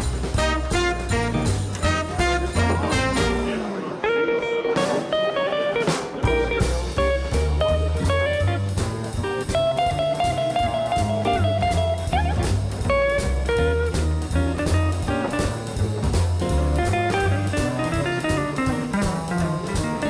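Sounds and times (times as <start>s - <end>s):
instrumental guitar music: 0.0s - 20.0s.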